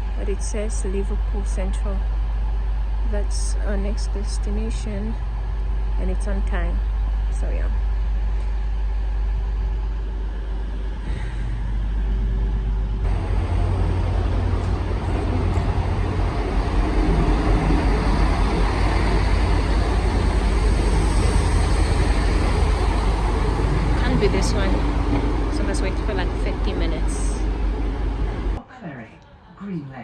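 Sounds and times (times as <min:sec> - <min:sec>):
train rumbling and rushing: 0:00.0 - 0:28.6.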